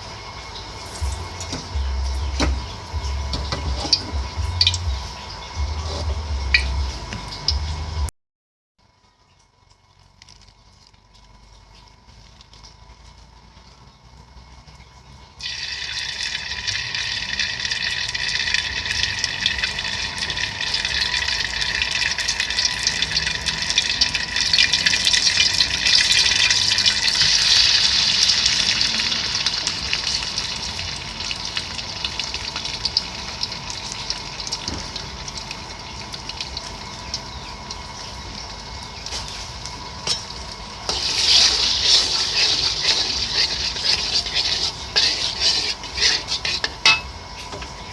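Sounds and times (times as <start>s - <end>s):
food sizzling in hot oil: 0.0s - 7.6s, 15.4s - 47.9s.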